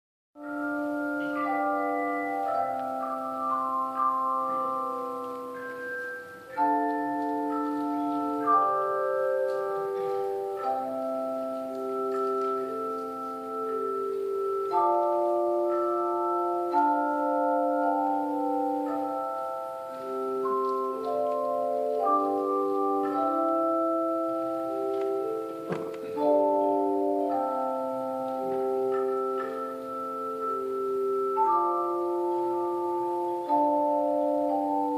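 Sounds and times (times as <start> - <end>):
handbell choir ringing chords: 0.4 - 34.9.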